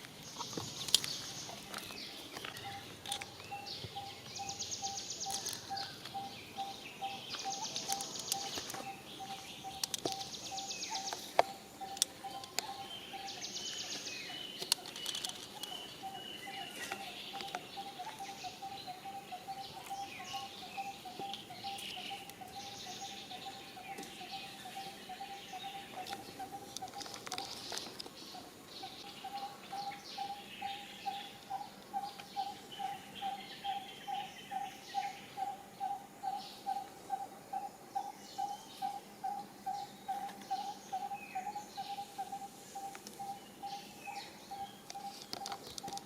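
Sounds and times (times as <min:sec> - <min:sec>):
bird chirps: 0:00.3 - 0:46.0.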